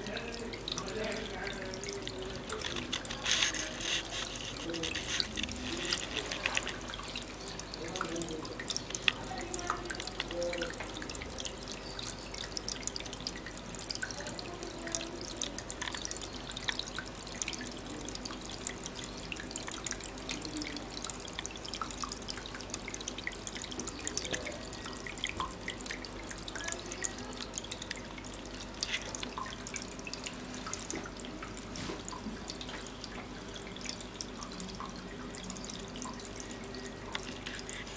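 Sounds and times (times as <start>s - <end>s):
fountain water trickling: 0.0s - 37.9s.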